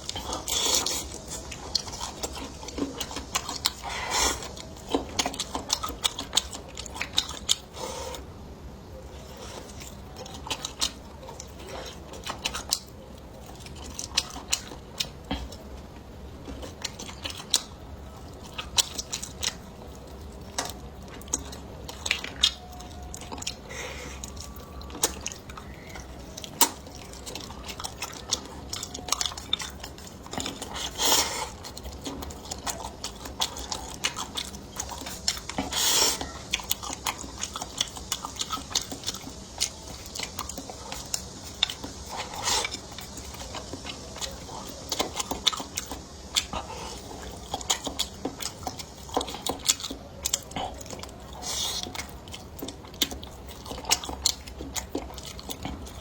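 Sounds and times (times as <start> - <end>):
chewing and biting: 0.0 - 8.3, 8.9 - 56.0.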